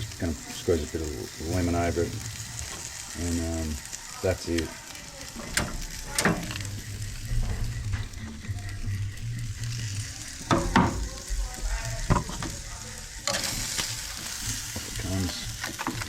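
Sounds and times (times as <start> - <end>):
fish sizzling on a barbecue: 0.0 - 16.0.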